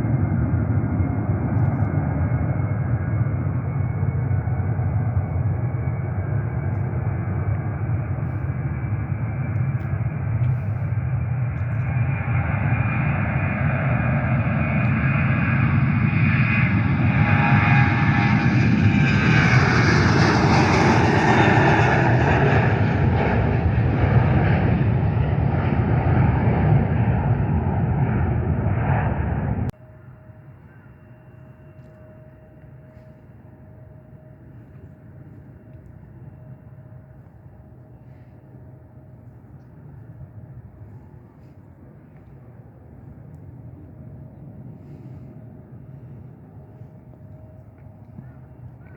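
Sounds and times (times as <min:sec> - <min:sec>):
airliner engines passing: 0:00.0 - 0:48.9.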